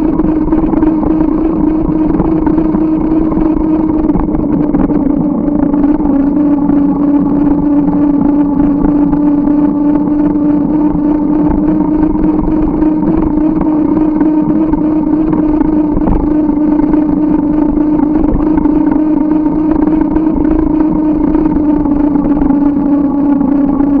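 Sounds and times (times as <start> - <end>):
road and wind rumble: 0.0 - 24.0
steady hum: 0.0 - 24.0.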